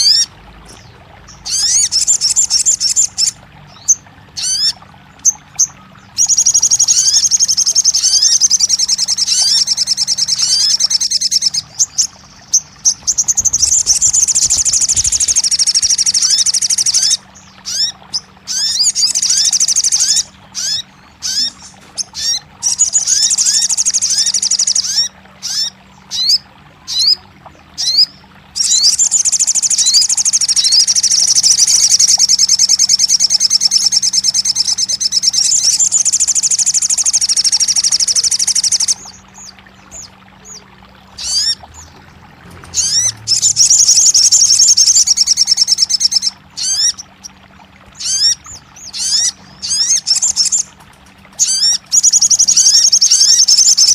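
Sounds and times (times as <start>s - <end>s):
bird chirps and fast trills: 0.0s - 53.9s.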